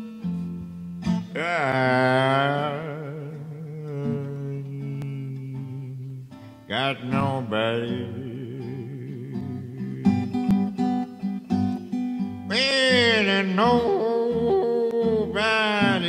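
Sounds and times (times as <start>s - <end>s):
acoustic guitar backing: 0.0s - 16.0s.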